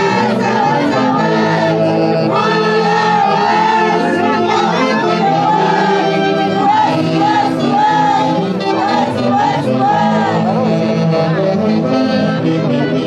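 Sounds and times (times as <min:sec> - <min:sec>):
saxophones playing melody: 0:00.0 - 0:13.0
voices singing along: 0:00.0 - 0:13.0.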